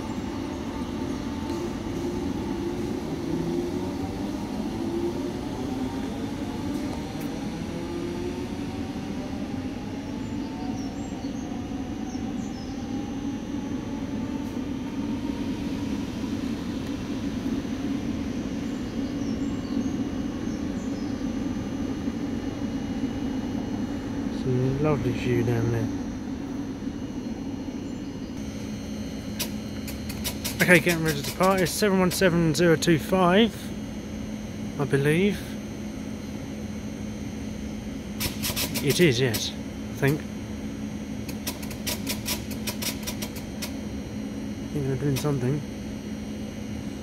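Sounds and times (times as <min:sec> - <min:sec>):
electric train motor whine: 0:00.0 - 0:47.0.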